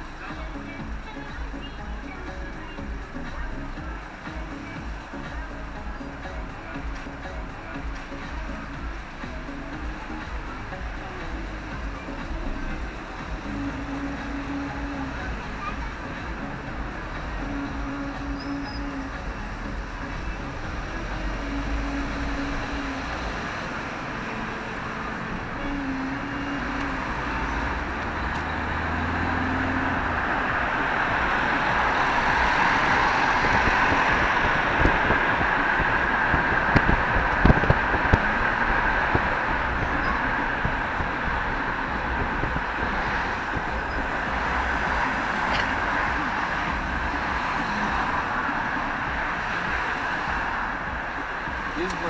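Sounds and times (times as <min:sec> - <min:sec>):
traffic noise: 0:00.0 - 0:52.0.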